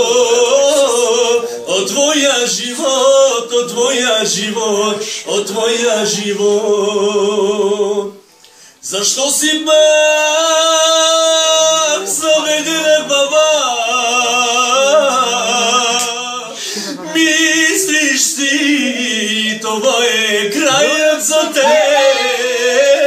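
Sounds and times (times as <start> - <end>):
man singing: 0.0 - 8.2, 8.8 - 23.0.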